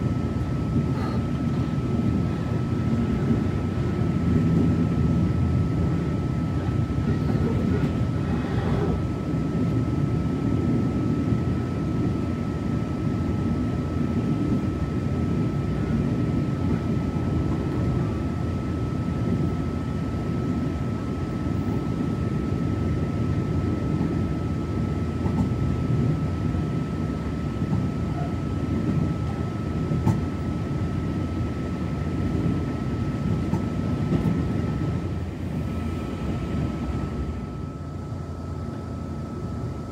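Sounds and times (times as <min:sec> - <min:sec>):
train car low rumble: 0:00.0 - 0:39.9.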